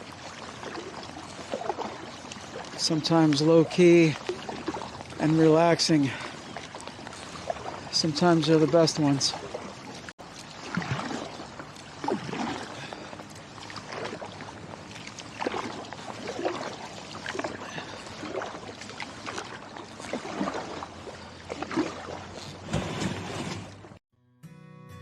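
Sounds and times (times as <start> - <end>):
water trickling: 0.0 - 22.7
paddle splashing water: 0.0 - 24.0.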